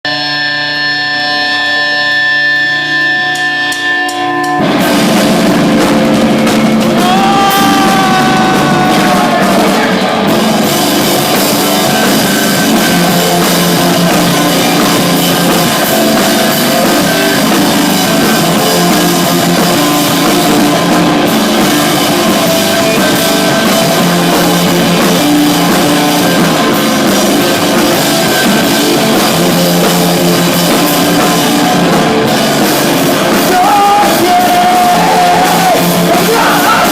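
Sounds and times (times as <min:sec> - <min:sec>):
drums: 0:00.0 - 0:36.9
live rock band playing: 0:00.0 - 0:36.9.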